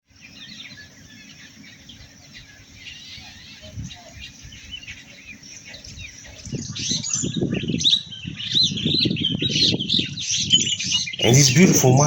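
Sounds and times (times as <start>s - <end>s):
birds chirping and calling: 0.1s - 12.0s.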